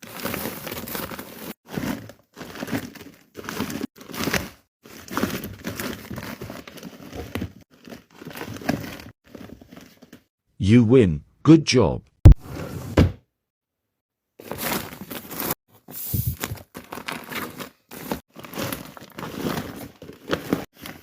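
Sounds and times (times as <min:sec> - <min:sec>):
paper crinkling and rustling: 0:00.0 - 0:10.3, 0:14.4 - 0:21.0.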